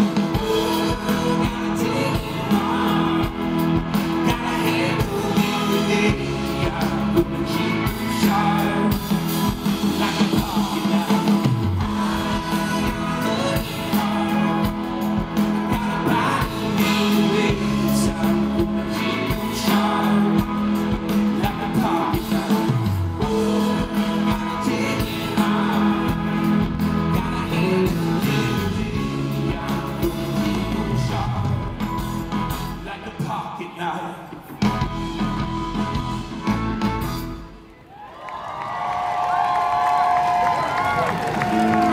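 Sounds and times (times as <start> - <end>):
electric bass: 0.0 - 32.9, 34.6 - 37.6
man singing lead vocal: 0.0 - 34.7
keyboards: 0.0 - 37.9
electric guitars: 0.0 - 38.0, 38.8 - 41.9.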